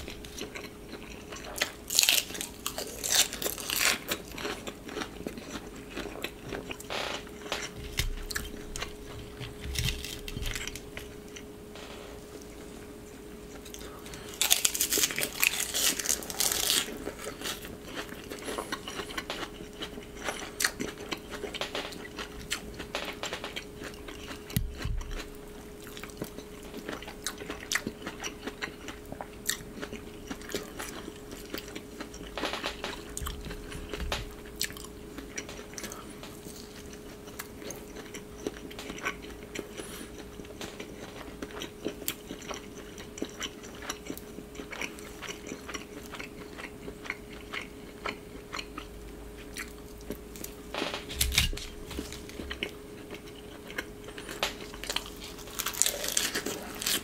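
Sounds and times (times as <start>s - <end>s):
chewing crisp lettuce: 0.0s - 11.5s, 12.3s - 57.0s
faint steady hum: 0.0s - 57.0s.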